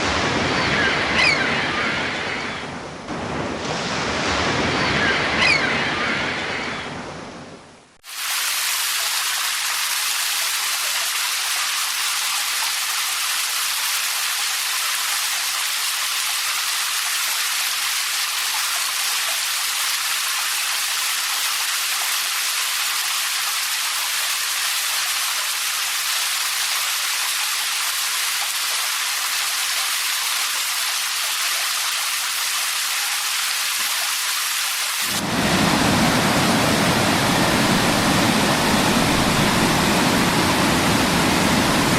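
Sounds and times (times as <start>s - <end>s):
hiss of falling water: 3.1s - 5.6s, 8.0s - 41.9s
waterfall rushing: 8.0s - 41.9s.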